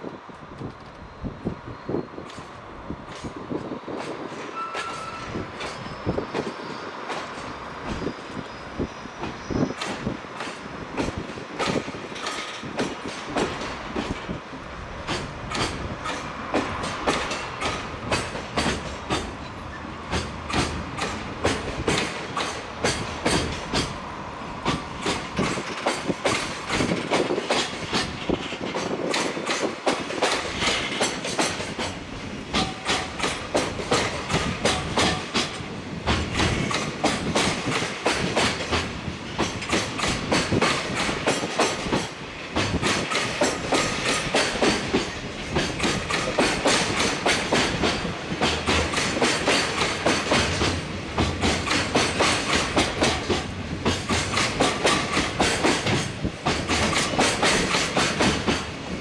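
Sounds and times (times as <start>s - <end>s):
train wheels clattering over joints: 2.2s - 24.0s, 24.6s - 59.0s.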